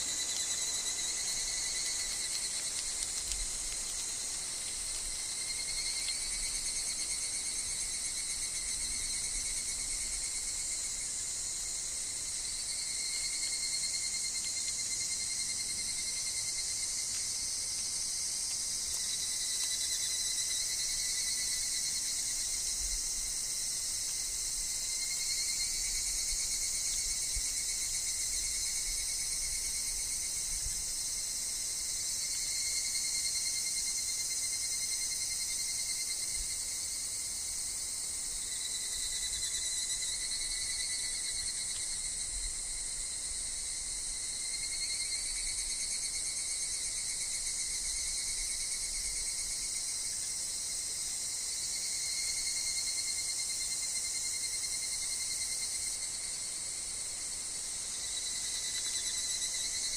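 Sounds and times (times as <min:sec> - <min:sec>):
cicadas calling: 0:00.0 - 0:59.9.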